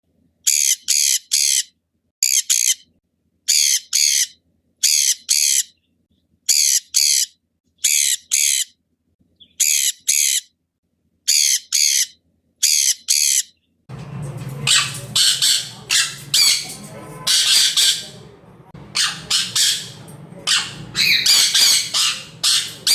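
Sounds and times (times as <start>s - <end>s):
parrot squawking: 0.5s - 2.9s, 3.5s - 5.8s, 6.5s - 8.8s, 9.4s - 10.5s, 11.3s - 13.5s, 14.4s - 22.9s.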